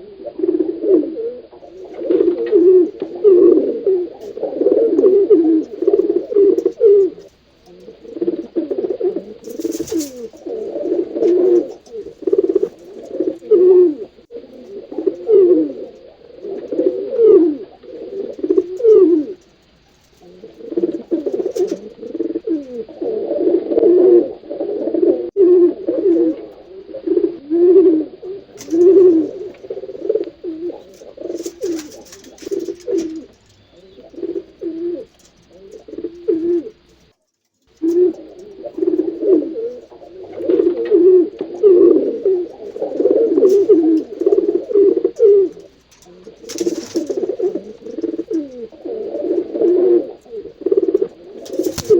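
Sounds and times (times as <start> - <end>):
pigeons cooing: 0.0 - 51.9.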